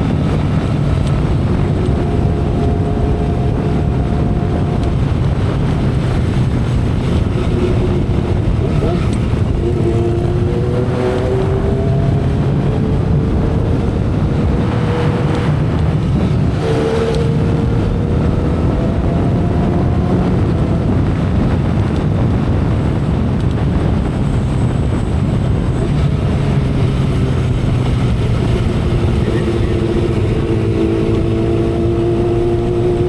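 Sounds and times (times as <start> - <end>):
motorcycle engine cruising: 0.0 - 33.0
wind rush on microphone: 0.0 - 33.0.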